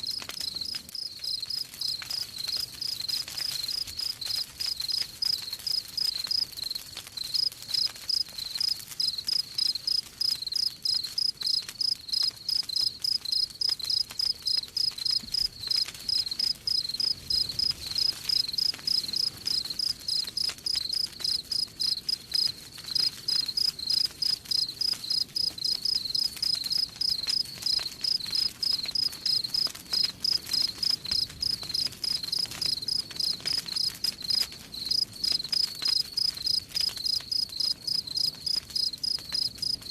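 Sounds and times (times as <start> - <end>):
cricket chirping: 0.0 - 39.9
wood fire crackling: 0.0 - 39.9.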